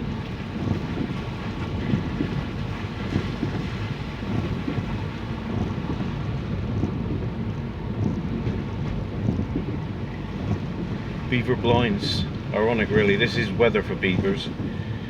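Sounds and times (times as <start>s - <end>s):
rain falling: 0.0s - 14.8s
wind buffeting microphone: 0.0s - 15.0s.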